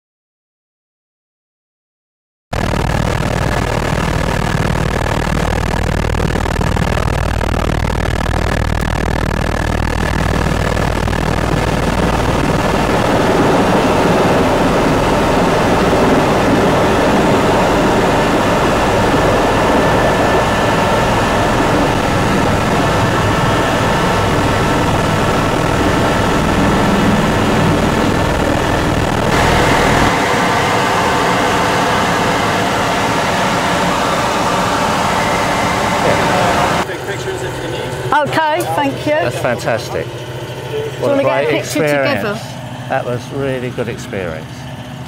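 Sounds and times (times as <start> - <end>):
helicopter engine and rotor: 2.6 - 45.0.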